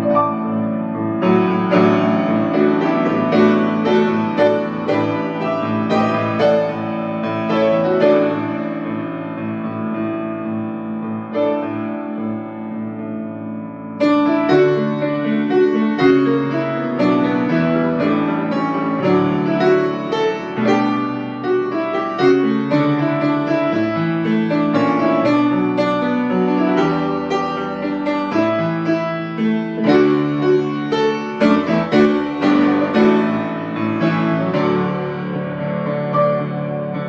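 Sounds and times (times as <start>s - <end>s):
solo piano playing: 0.0s - 37.0s.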